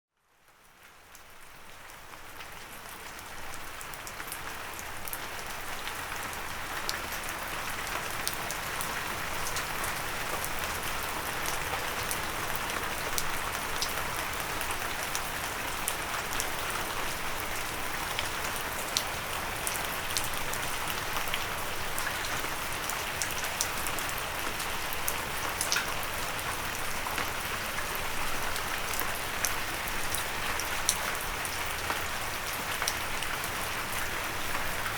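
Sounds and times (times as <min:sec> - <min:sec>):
hiss of steady rain: 0:00.2 - 0:34.9.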